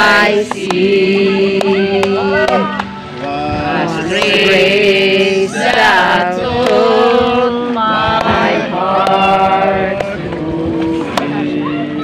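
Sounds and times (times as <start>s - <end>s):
singing with long held notes: 0.0s - 12.0s.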